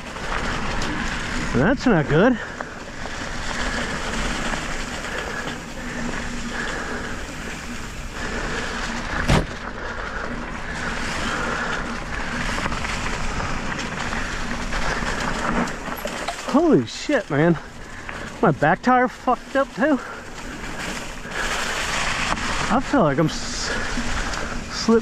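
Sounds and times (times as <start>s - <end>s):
bike tyres on dirt trail: 0.0s - 25.0s.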